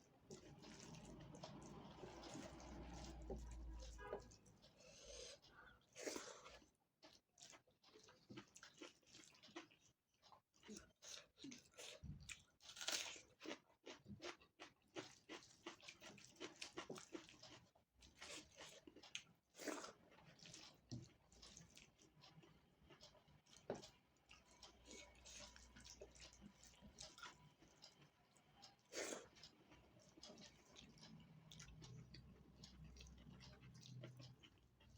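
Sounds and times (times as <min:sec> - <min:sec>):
chewing with wet mouth clicks: 0:00.2 - 0:34.9.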